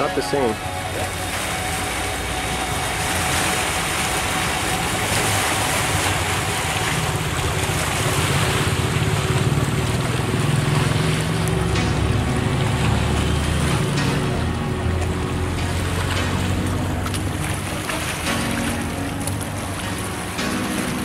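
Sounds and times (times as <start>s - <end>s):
low fluttering rumble: 0.0s - 21.0s
water noise: 0.0s - 21.0s
wind: 0.0s - 21.0s.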